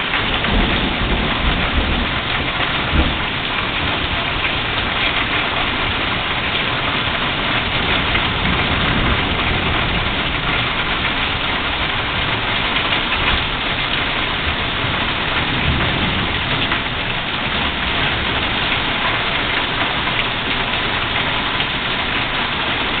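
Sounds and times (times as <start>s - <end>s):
heavy rain on roofs: 0.0s - 23.0s.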